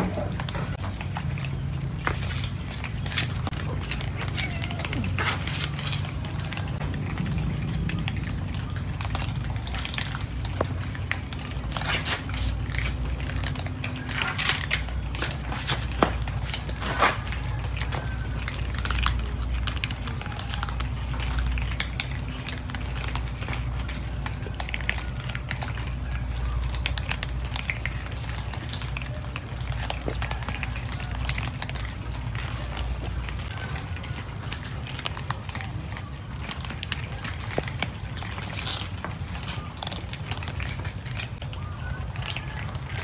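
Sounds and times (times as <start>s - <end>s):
cats crunching dry kibble: 0.0s - 43.0s.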